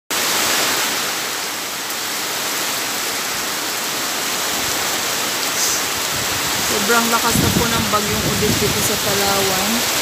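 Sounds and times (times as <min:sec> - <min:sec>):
heavy rain pouring: 0:00.1 - 0:10.0.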